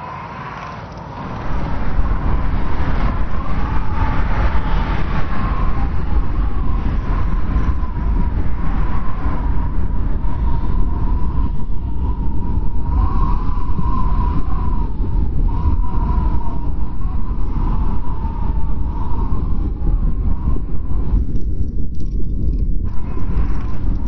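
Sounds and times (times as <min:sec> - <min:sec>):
strong wind rumbling: 0:00.0 - 0:24.0
thin wind whistle: 0:00.0 - 0:24.0.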